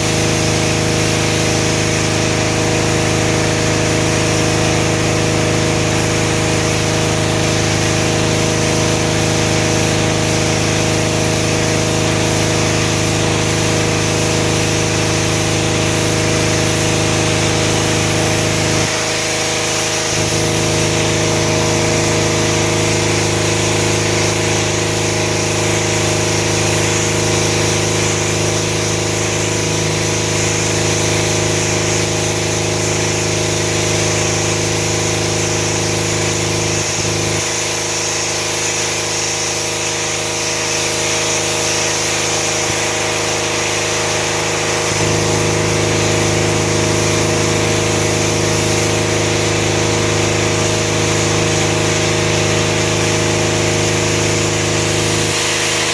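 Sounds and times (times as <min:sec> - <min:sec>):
high-pressure water spray hissing: 0:00.0 - 0:55.9
pump humming: 0:00.0 - 0:55.9.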